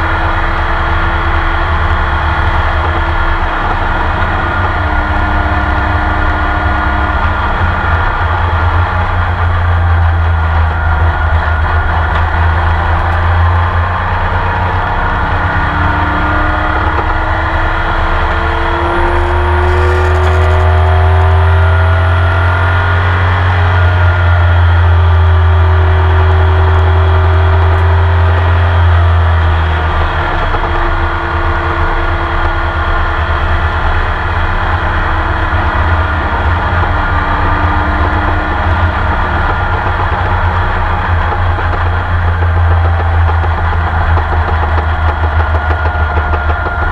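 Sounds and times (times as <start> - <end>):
car engine under load: 0.0 - 46.9.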